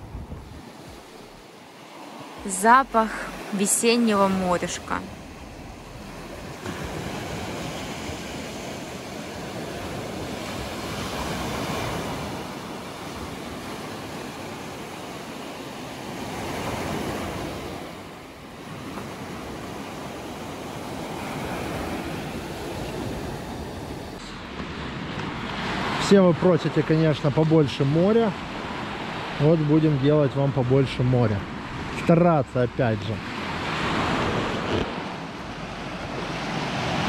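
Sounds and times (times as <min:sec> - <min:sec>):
waves washing in: 0:00.0 - 0:37.0.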